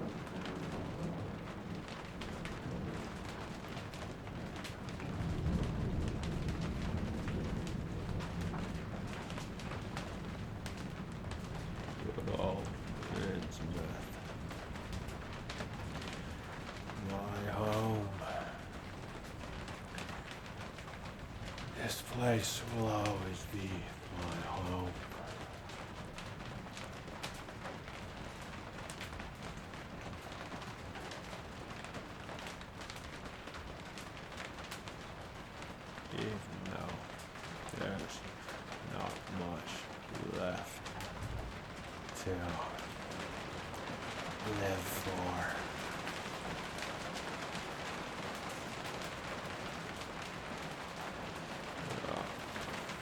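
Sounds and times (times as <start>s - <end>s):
rain pattering: 0.0s - 53.0s.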